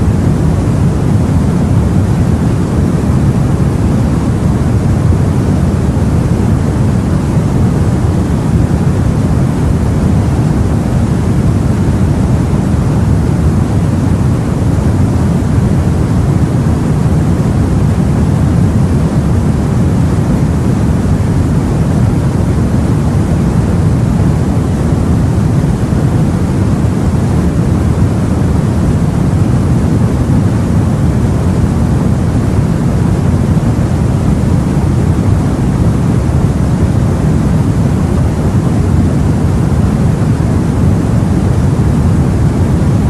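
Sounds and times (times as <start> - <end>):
deep rushing sea and wind: 0.0 - 43.0.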